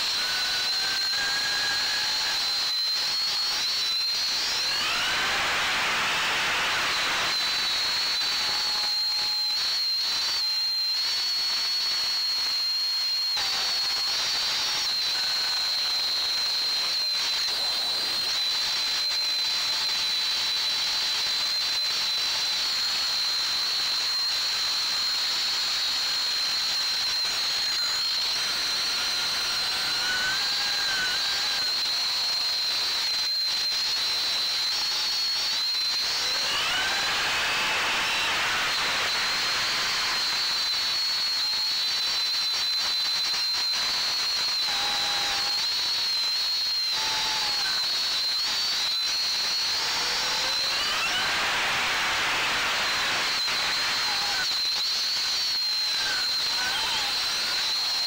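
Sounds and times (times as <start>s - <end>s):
high-pitched drone motor whine: 0.0s - 58.0s.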